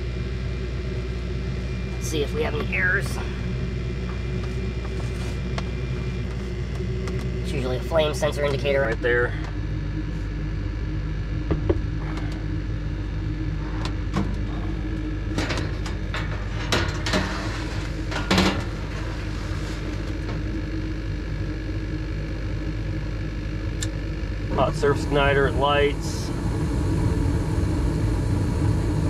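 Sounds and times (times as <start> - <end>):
furnace motor humming: 0.0 - 29.0.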